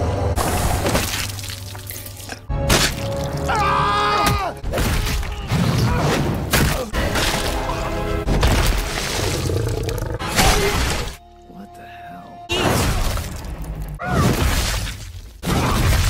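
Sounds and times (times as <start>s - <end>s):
dramatic orchestral score: 0.0s - 14.6s.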